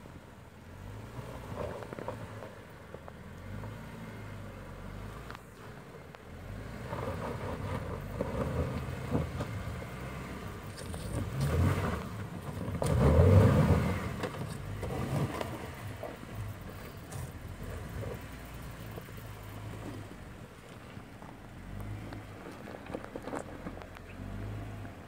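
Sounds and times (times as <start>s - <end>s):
car engine under load: 0.0s - 25.0s.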